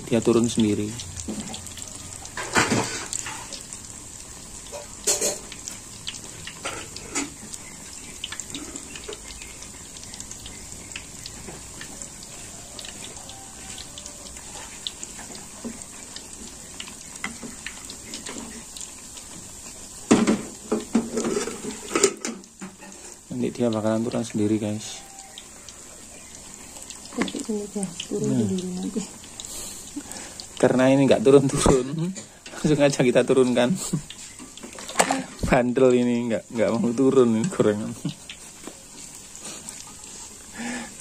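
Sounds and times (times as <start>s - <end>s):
food deep-frying in oil: 0.0s - 41.0s.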